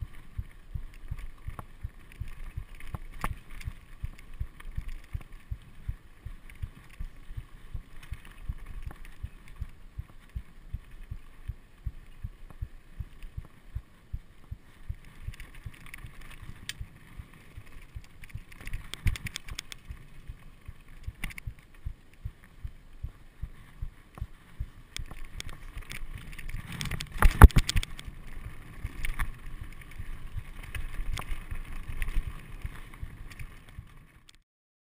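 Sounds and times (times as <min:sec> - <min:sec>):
sharp clicks and rattles: 0:00.0 - 0:13.8, 0:14.9 - 0:22.6, 0:24.9 - 0:34.4.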